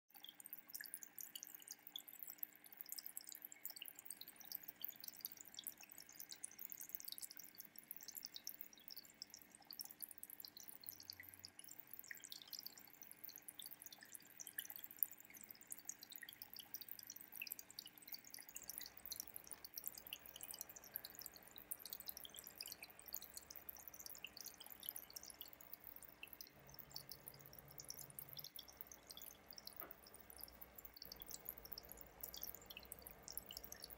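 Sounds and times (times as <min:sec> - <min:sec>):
aquarium water trickling and bubbling: 0:00.1 - 0:33.9
faint steady hum: 0:00.2 - 0:33.9.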